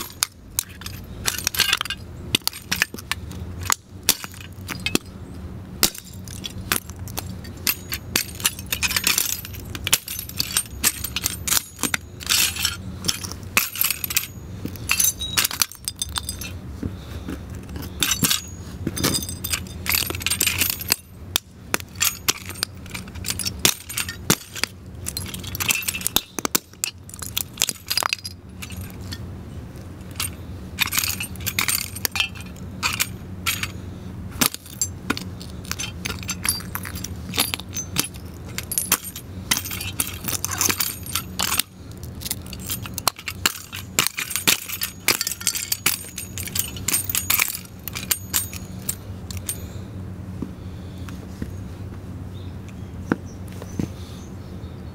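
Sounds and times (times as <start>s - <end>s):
boots crushing glass and metal: 0.0s - 5.2s, 5.8s - 29.2s, 30.0s - 49.8s.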